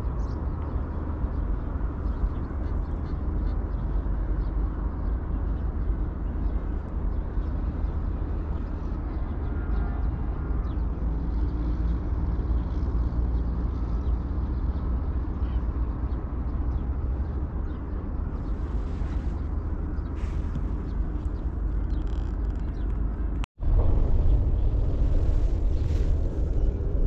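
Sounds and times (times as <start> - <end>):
outdoor rumble and hiss: 0.0 - 27.0.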